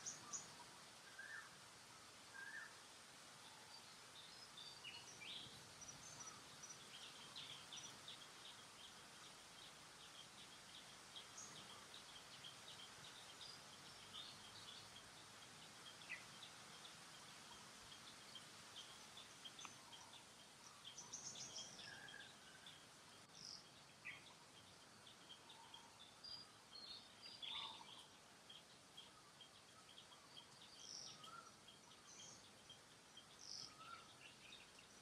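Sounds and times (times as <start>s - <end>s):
steady low hiss: 0.0s - 35.0s
birds chirping: 4.2s - 35.0s.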